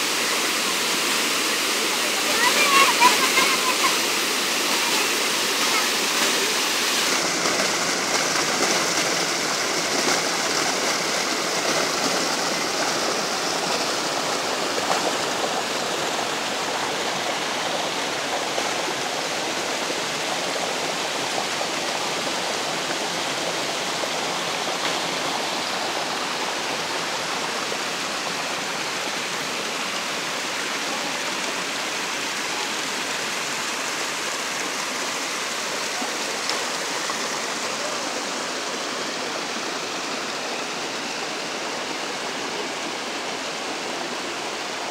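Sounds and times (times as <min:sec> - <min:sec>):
stream rushing over rocks: 0:00.0 - 0:44.9.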